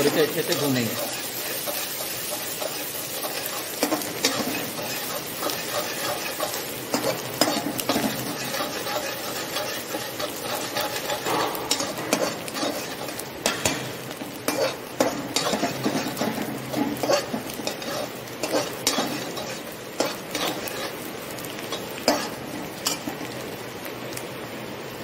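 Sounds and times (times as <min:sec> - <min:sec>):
spatula scraping metal pan: 0:00.0 - 0:13.8, 0:14.4 - 0:21.1
onions sizzling in oil: 0:00.0 - 0:25.0.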